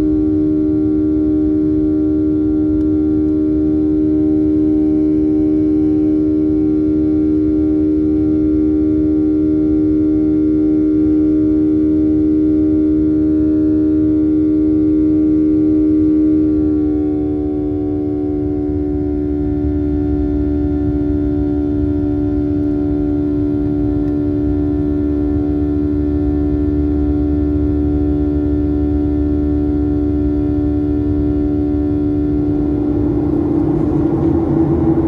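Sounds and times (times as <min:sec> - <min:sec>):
jet engines droning in cabin: 0:00.0 - 0:35.0.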